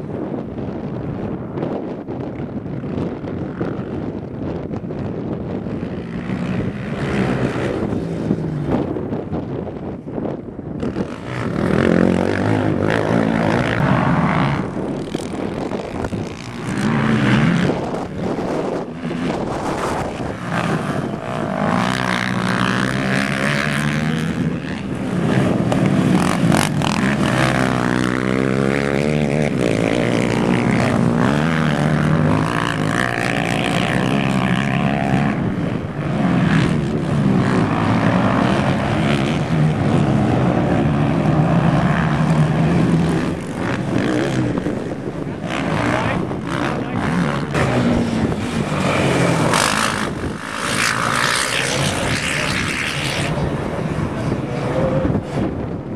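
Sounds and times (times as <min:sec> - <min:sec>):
quad engines revving: 0:05.4 - 0:09.7, 0:10.3 - 0:55.9.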